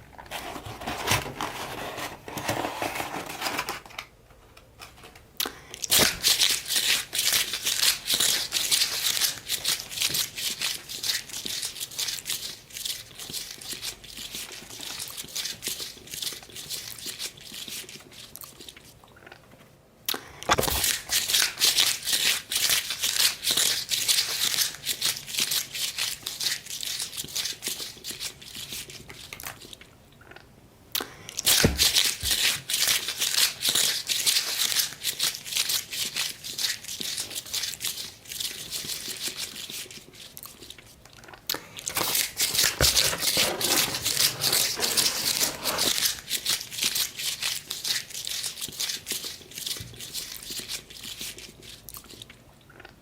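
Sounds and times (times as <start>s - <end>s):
crunchy chewing: 5.4s - 19.4s, 20.1s - 53.0s.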